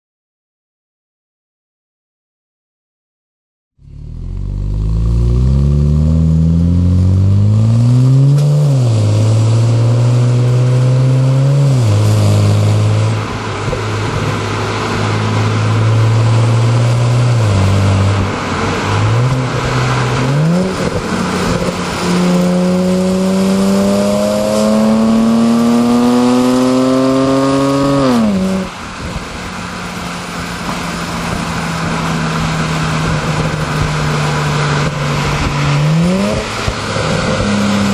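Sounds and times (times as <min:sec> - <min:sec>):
car engine and exhaust accelerating: 0:03.8 - 0:37.9.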